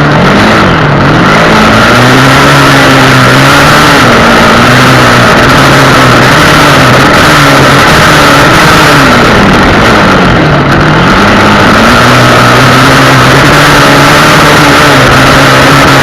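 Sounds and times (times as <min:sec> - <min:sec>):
loud even rush of noise: 0:00.0 - 0:16.0
motorcycle engine running: 0:00.0 - 0:16.0.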